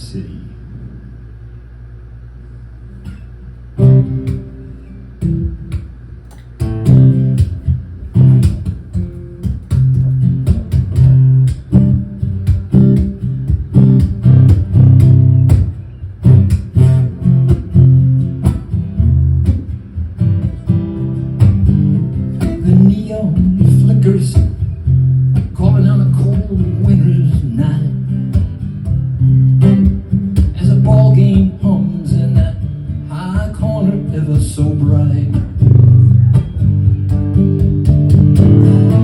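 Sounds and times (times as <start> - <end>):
low hum: 0.0 - 32.6
guitar chords: 2.9 - 39.0.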